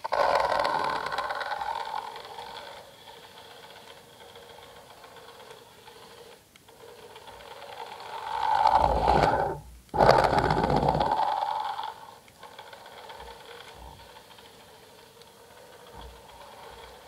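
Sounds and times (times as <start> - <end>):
faint steady hum: 0.0 - 17.0
toy car motor revving: 0.0 - 17.0.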